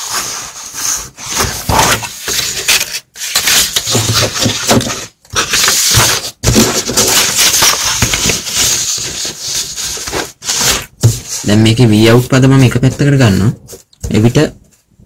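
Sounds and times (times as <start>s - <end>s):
paper rustling under hand: 0.0s - 15.0s.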